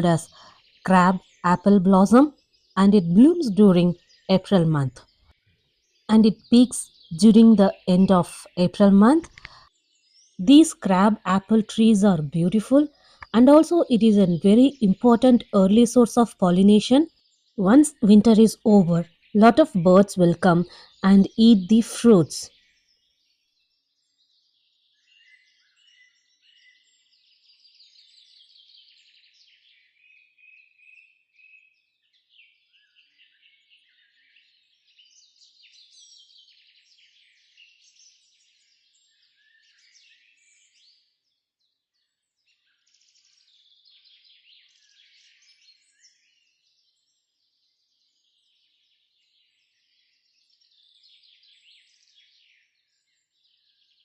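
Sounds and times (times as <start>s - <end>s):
songbirds singing faintly: 0.0s - 54.0s.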